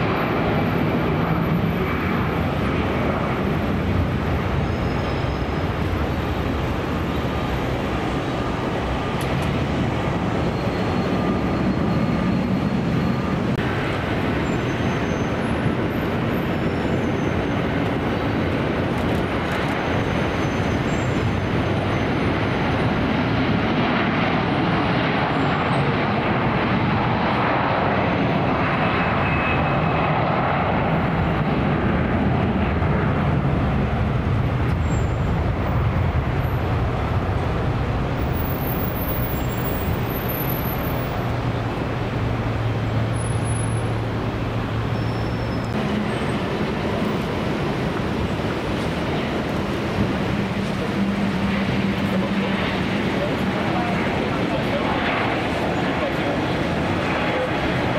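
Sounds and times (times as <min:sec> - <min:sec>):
jet engines roaring: 0:00.0 - 0:57.9.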